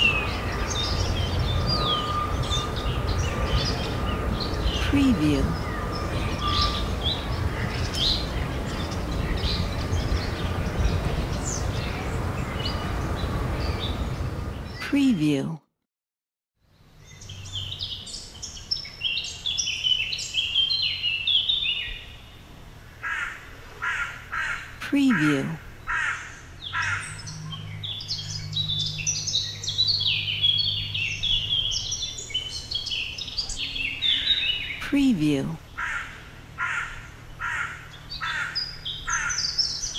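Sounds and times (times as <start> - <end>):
birds chirping and calling: 0.0 - 15.4, 17.1 - 39.9.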